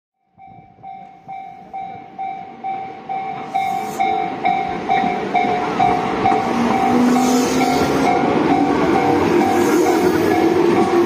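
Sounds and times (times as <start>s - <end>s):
level crossing warning bell: 0.2s - 11.0s
train rumbling past: 0.4s - 11.0s.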